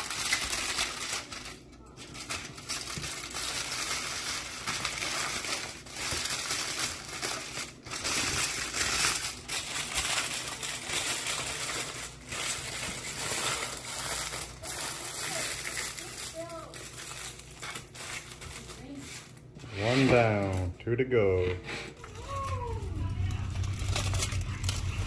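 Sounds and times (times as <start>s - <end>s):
aluminium foil crinkling: 0.0s - 19.6s, 22.0s - 25.0s.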